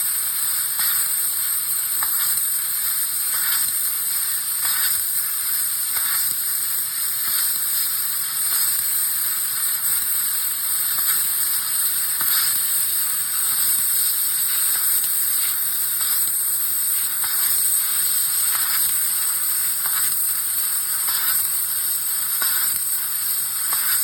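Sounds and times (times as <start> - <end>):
laser cutting steel hiss: 0.0 - 24.0.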